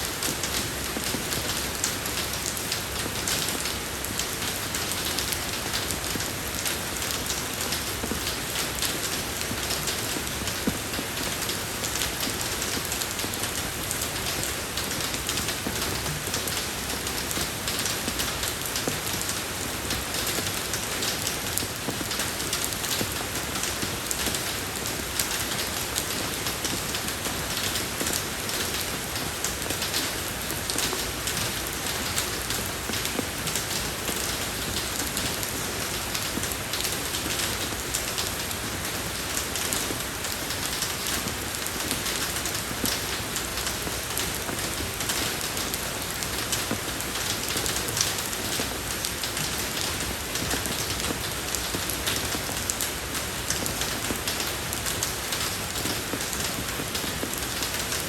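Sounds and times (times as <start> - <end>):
rain falling on a road: 0.0 - 58.0.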